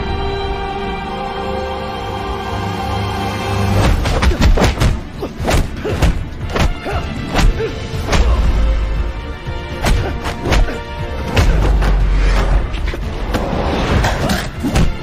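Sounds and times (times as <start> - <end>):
tense orchestral music: 0.0 - 15.0.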